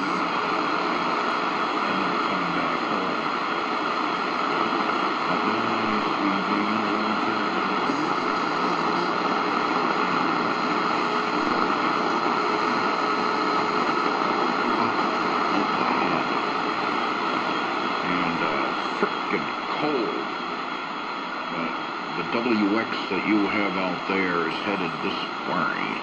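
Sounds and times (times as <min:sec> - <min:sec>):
muffled radio voice: 0:00.0 - 0:20.3, 0:21.5 - 0:26.0
radio static hiss: 0:00.0 - 0:26.0.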